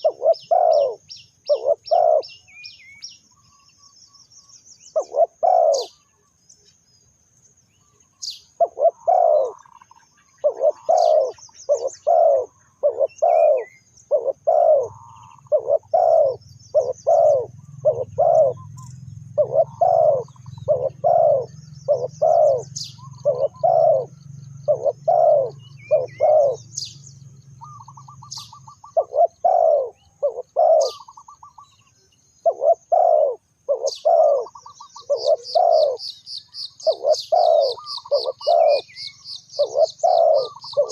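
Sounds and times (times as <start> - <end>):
doves cooing: 0.0 - 2.6, 4.9 - 6.3, 8.2 - 40.9
small birds chirping: 0.0 - 40.9.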